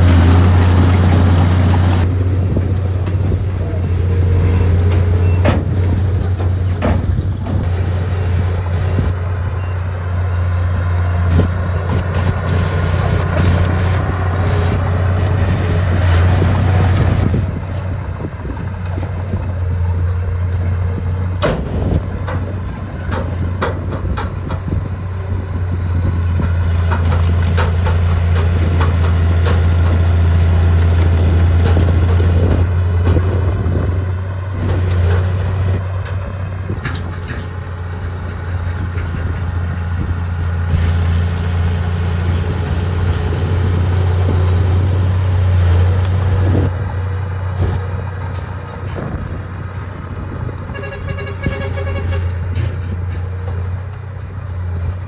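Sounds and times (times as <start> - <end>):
clanks and knocks: 0.0 - 7.8, 10.9 - 25.2, 25.8 - 44.9, 50.8 - 54.0
earthmoving machine diesel engine: 0.0 - 55.0.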